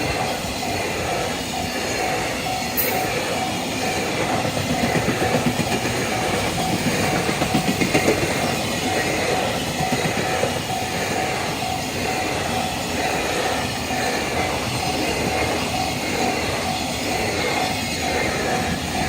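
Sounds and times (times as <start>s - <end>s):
crossing warning bell: 0.0s - 19.0s
train wheels clattering over rails: 0.0s - 19.0s.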